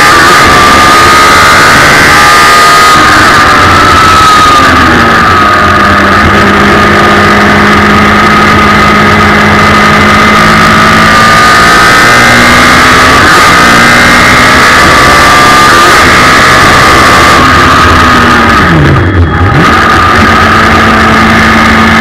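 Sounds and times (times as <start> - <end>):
race car engine running hard: 0.0 - 22.0.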